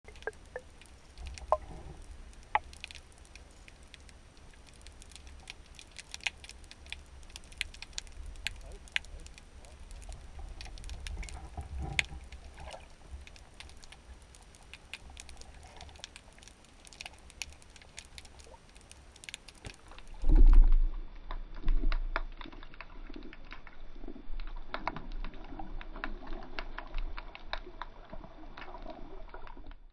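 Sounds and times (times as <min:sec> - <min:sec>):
low water rumble: 0:00.0 - 0:29.9
underwater clicking and crackling: 0:00.0 - 0:29.9.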